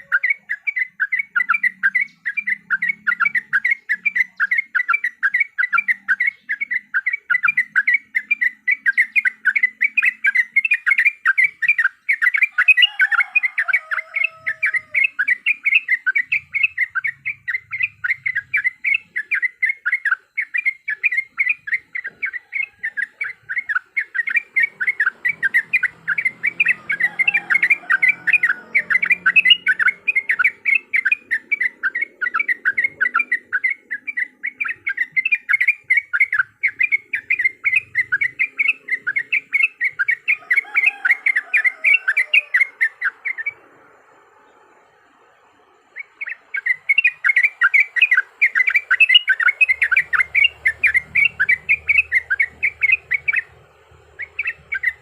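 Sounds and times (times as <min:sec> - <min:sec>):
bird chirping rapidly: 0:00.0 - 0:55.0.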